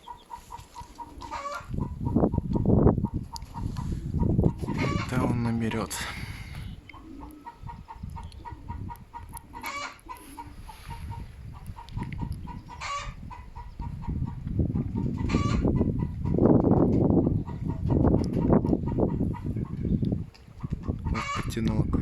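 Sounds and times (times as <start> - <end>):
chickens clucking: 0.0 - 21.8
wind buffeting microphone: 0.0 - 22.0.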